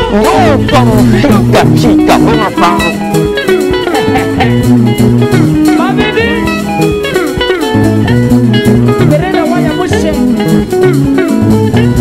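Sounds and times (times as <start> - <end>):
electric guitar band music: 0.0 - 12.0.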